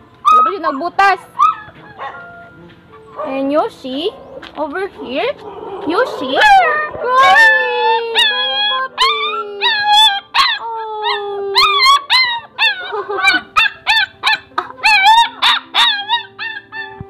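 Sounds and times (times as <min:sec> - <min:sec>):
puppy yelping: 0:00.2 - 0:03.5, 0:04.1 - 0:17.0.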